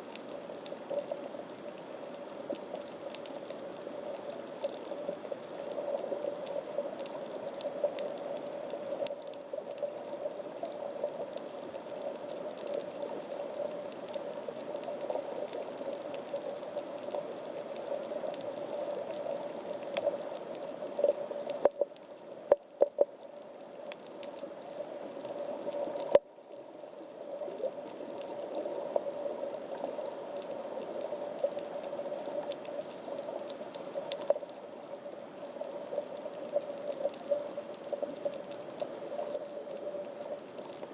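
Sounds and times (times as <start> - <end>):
faint underwater crackling: 0.0 - 40.9
underwater wash: 0.0 - 40.9.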